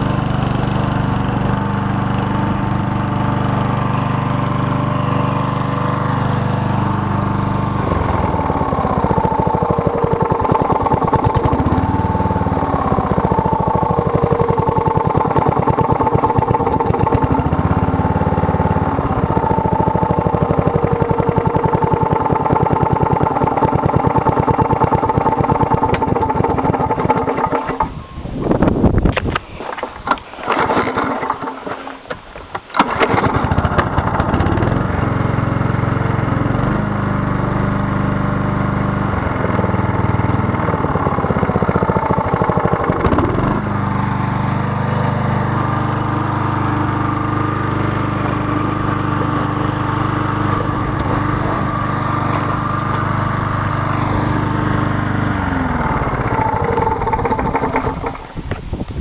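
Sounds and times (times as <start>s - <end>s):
lawn mower engine starting and running: 0.0s - 59.0s.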